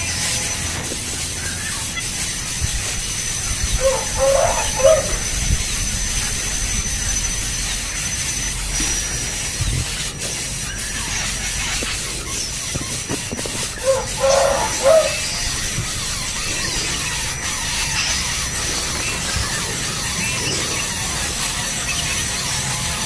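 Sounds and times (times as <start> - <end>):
steady high hiss: 0.0 - 23.0.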